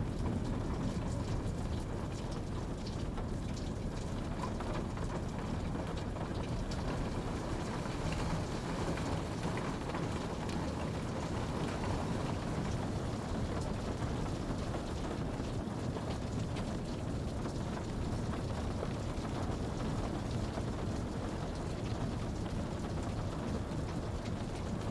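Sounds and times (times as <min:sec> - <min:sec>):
steady rain hiss: 0:00.2 - 0:24.9.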